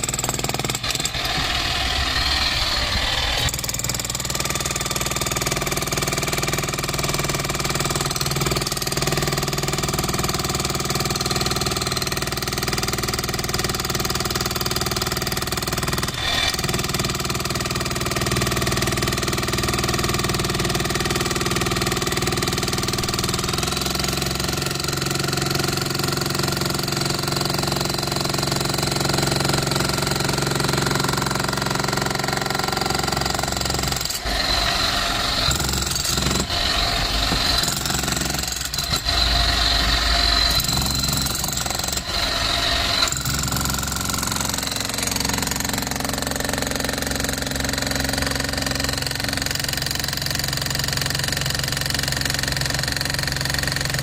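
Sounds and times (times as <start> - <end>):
demolition hammer pounding concrete: 0.0 - 54.0.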